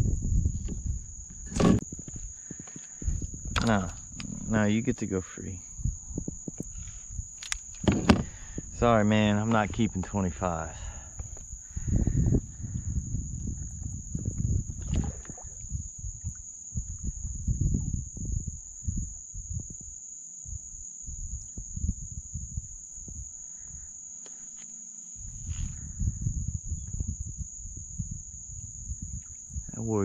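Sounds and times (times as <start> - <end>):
wind buffeting microphone: 0.0 - 24.0, 25.2 - 30.0
high-pitched insect drone: 0.0 - 30.0.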